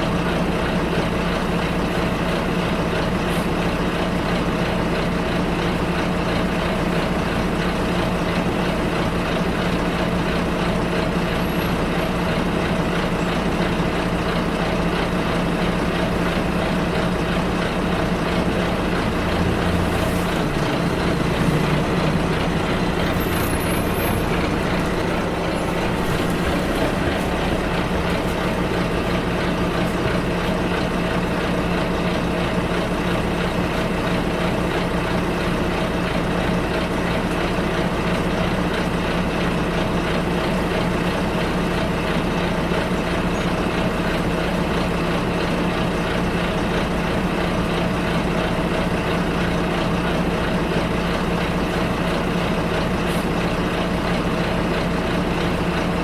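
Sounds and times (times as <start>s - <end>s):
bus engine humming: 0.0s - 56.0s.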